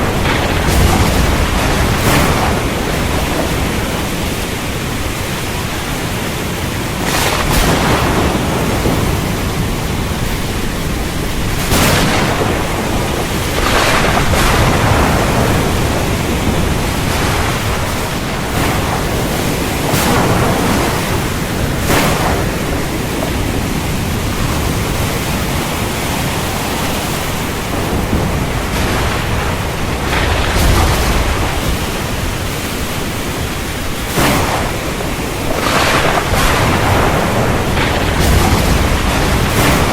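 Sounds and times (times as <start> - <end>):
heavy rain: 0.0 - 39.9
thunder rumbling: 0.0 - 39.9.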